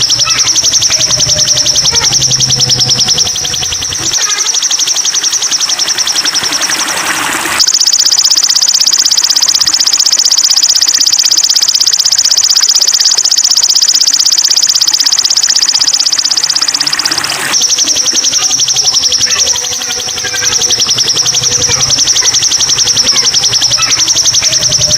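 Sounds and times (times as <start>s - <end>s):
bird high-pitched rapid trill: 0.0s - 24.9s.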